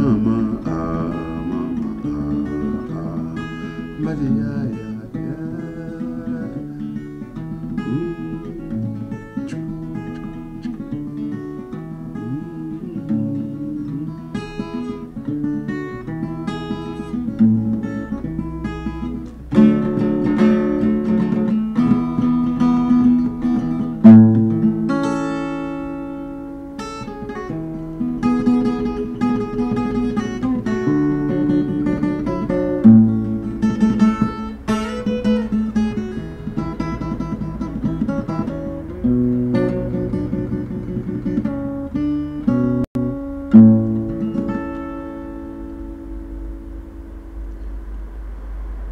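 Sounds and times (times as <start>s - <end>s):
acoustic guitar: 0.0s - 48.9s.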